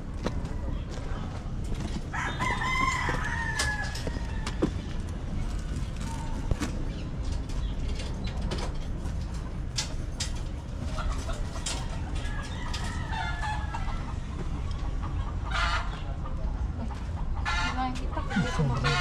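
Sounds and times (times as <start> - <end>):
chickens clucking: 0.0 - 19.0
low rumbling background: 0.0 - 19.0.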